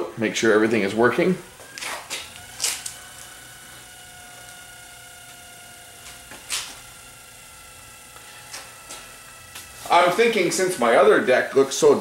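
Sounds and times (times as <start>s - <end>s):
tape deck motors whining: 0.0s - 12.0s.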